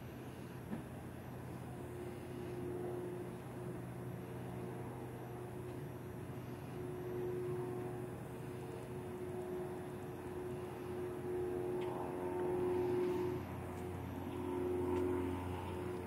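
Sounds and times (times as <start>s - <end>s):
distant engine hum: 0.0s - 16.0s.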